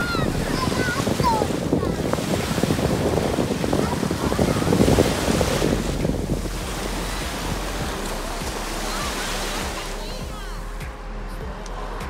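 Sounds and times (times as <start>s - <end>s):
sea waves washing onto beach: 0.0s - 10.9s
wind buffeting microphone: 0.0s - 10.9s.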